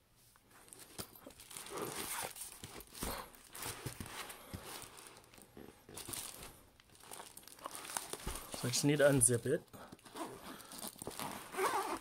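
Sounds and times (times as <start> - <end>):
packaging rustling: 0.6 - 12.0.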